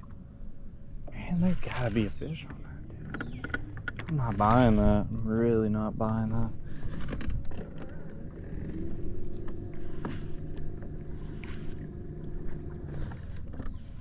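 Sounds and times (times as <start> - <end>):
water rumbling: 0.0 - 14.0
wind: 0.0 - 14.0
electric trolling motor humming: 2.0 - 14.0.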